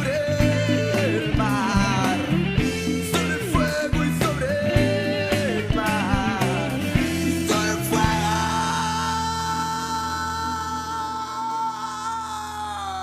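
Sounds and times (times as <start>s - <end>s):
rock song with vocals: 0.0s - 13.0s.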